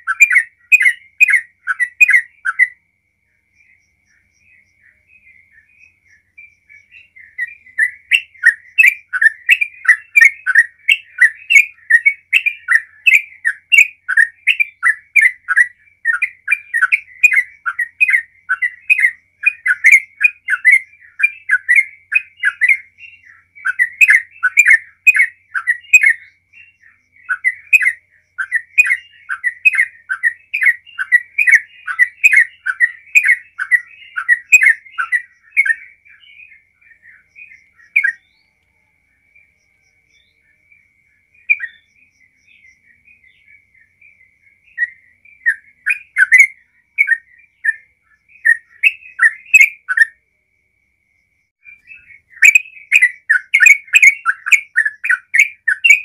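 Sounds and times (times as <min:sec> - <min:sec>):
bulbul singing: 0:00.0 - 0:50.2, 0:51.5 - 0:56.0.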